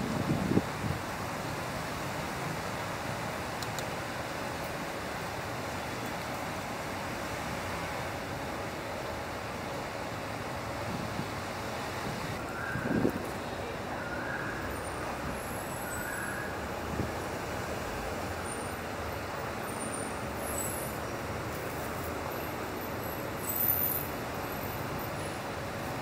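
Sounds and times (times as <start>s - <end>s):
city traffic noise: 0.0s - 26.0s.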